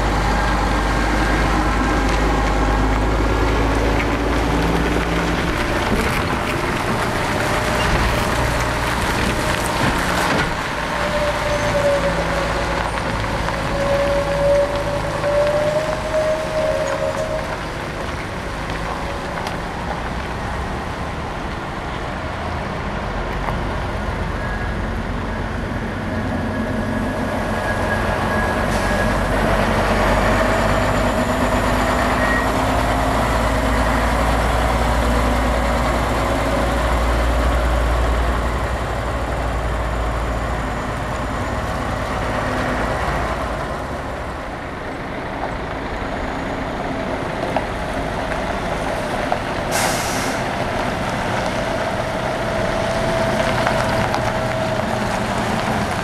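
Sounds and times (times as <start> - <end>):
box truck passing close by: 0.0 - 56.0
diesel truck engines rumbling: 0.0 - 56.0.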